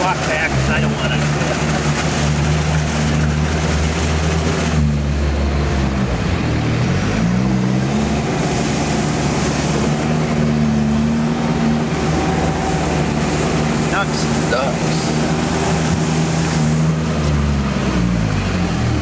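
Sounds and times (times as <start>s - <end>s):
diesel engine running: 0.0s - 19.0s
steady rushing noise: 0.0s - 19.0s.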